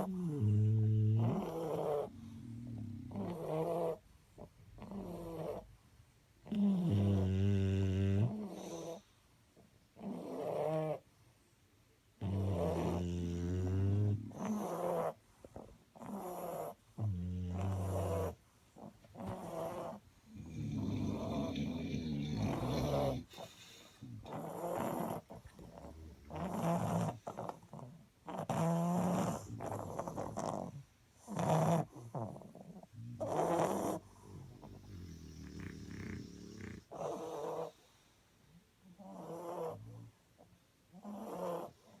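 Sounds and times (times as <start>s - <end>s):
dogs snoring: 0.0s - 5.8s, 6.4s - 11.1s, 12.2s - 37.9s, 38.8s - 42.0s.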